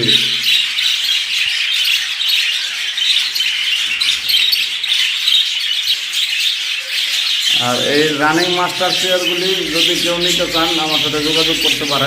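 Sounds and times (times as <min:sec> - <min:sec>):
birds chattering and squawking: 0:00.0 - 0:12.0.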